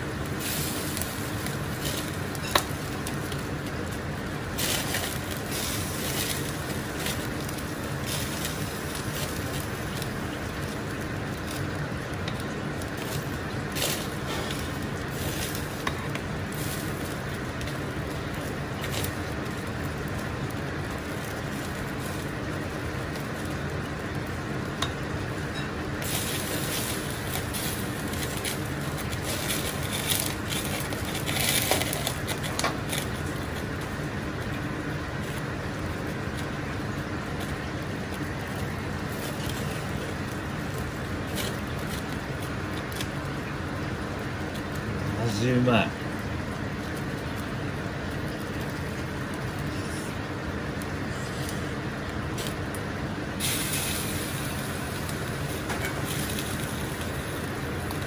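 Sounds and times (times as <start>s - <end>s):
broth boiling and bubbling: 0.0s - 58.0s.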